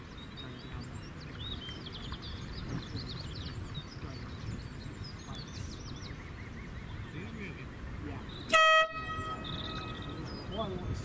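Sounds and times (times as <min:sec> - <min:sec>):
small birds chirping and whistling: 0:00.0 - 0:11.0.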